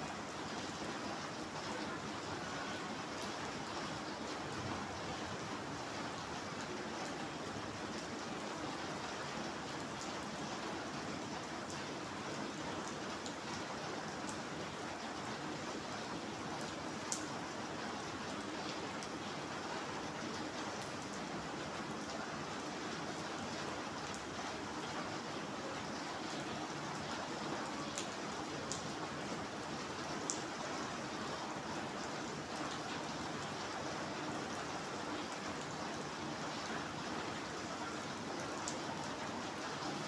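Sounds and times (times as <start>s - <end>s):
rain on wet concrete: 0.0s - 40.0s.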